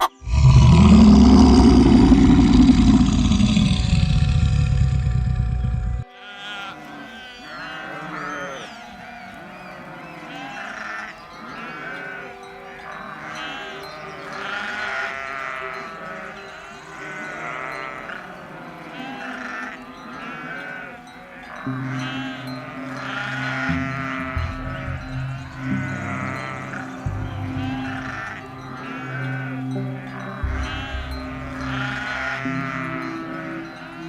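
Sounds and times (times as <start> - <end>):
sheep bleating: 0.0 - 8.7, 10.2 - 12.2, 12.8 - 33.6.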